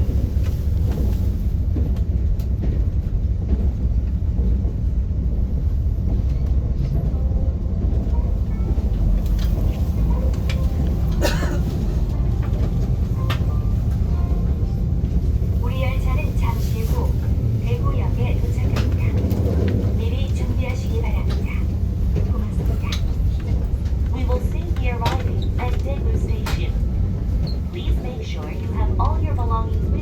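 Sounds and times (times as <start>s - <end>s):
train rumbling on track: 0.0s - 30.0s.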